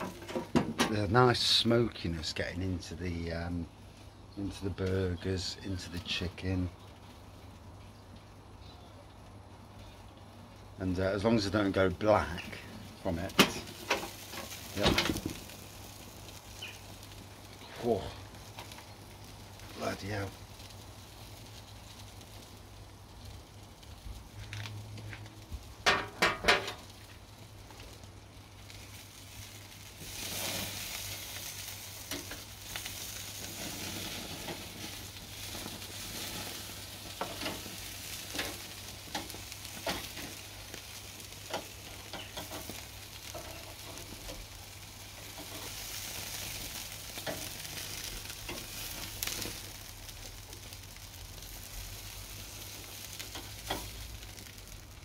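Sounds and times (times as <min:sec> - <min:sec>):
meat sizzling on grill: 0:00.0 - 0:55.0.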